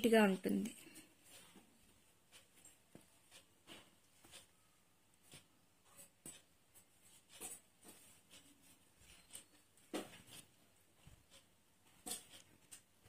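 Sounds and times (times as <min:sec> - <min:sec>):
needle and thread through cloth: 0:00.0 - 0:13.0.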